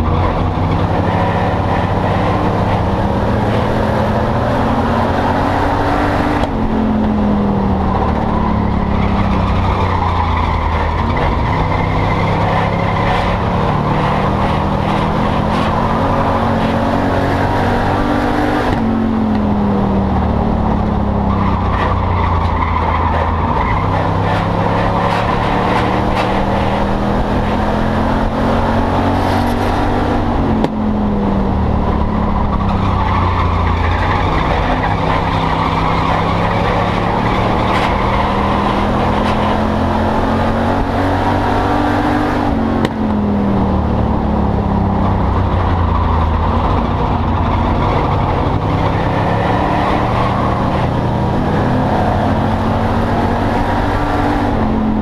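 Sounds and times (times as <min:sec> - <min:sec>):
race car engine from cockpit: 0:00.0 - 0:55.0.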